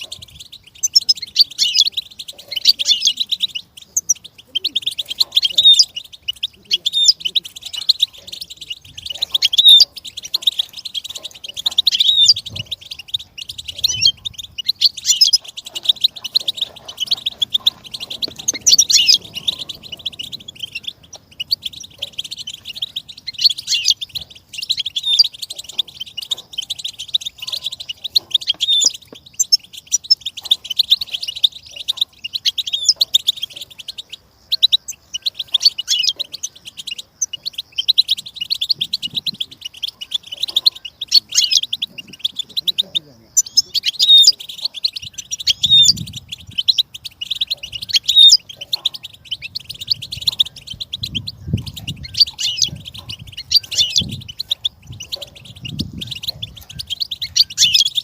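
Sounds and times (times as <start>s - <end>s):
bird twittering: 0.0s - 58.0s.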